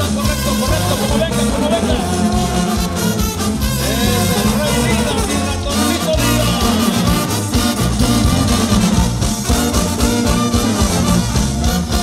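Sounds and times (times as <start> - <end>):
lively band music: 0.0 - 12.0.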